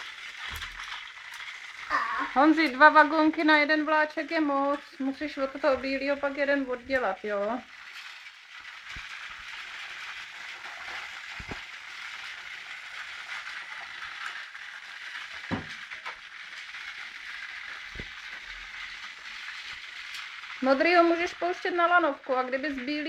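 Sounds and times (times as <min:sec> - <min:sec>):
toy train motors whirring: 0:00.0 - 0:23.0.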